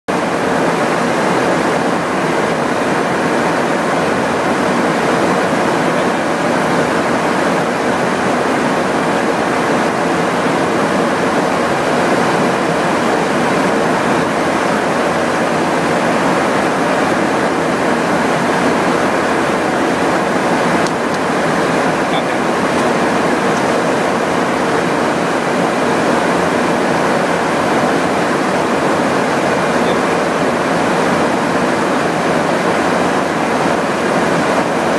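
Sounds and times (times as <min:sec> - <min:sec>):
aircraft airflow and engines: 0:00.1 - 0:34.9
faint steady hum: 0:00.1 - 0:34.9.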